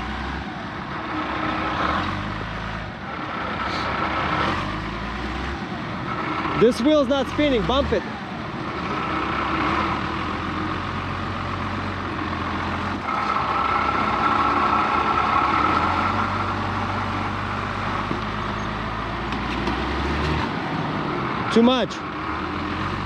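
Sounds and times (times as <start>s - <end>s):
pickup truck engine under load: 0.0s - 23.0s.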